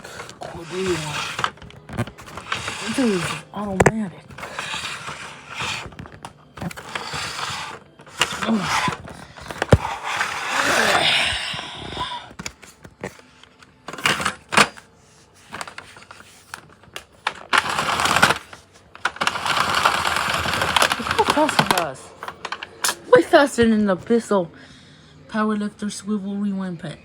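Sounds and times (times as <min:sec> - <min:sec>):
vacuum cord rewinding: 0:00.0 - 0:14.8, 0:15.4 - 0:23.8
cord scraping and clattering: 0:00.0 - 0:23.0.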